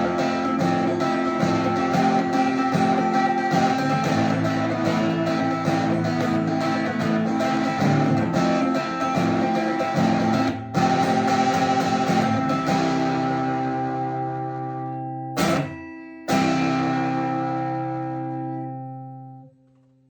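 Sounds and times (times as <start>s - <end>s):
acoustic guitar playing: 0.0s - 20.0s.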